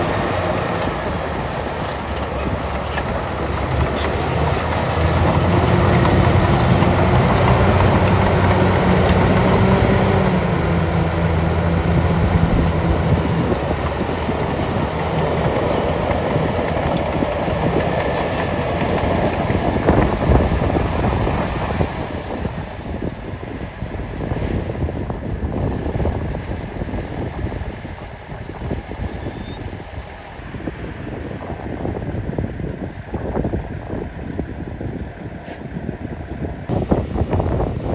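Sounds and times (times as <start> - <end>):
diesel machinery rumbling: 0.0 - 37.9.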